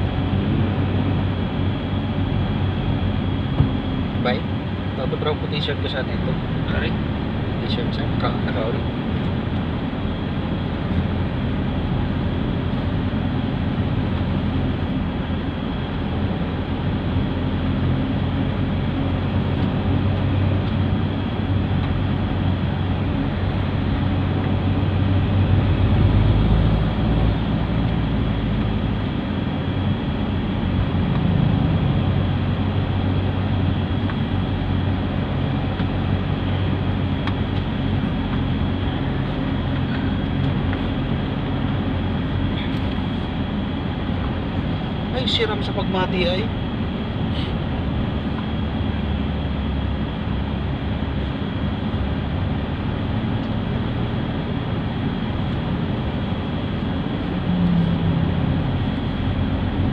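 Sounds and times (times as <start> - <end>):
road noise: 0.0 - 59.9
vehicle engine drone: 0.0 - 59.9.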